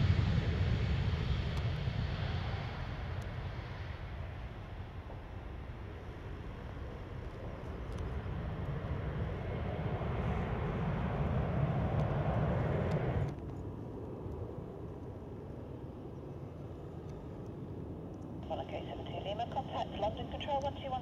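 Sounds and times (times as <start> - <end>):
airliner jet engine roar: 0.0 - 21.0
steady jet engine rumble: 0.0 - 21.0.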